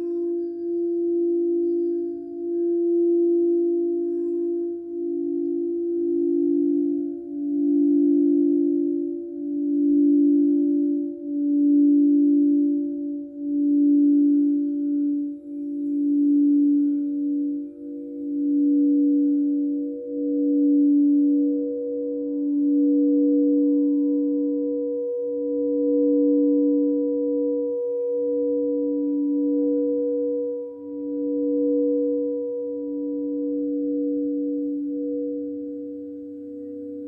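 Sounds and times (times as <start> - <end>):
singing bowls ringing: 0.0 - 37.0.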